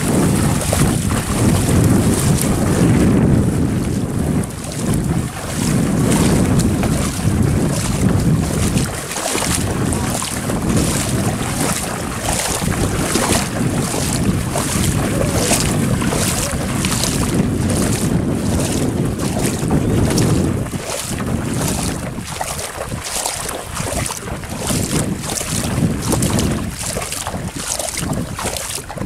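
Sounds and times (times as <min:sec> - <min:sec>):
wading through shallow water: 0:00.0 - 0:29.0
wind buffeting microphone: 0:00.0 - 0:29.0.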